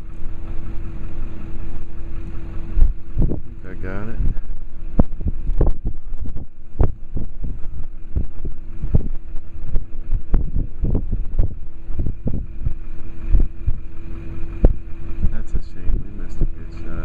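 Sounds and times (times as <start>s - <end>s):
steady low hum: 0.0s - 17.0s
wind buffeting the microphone: 0.0s - 17.0s.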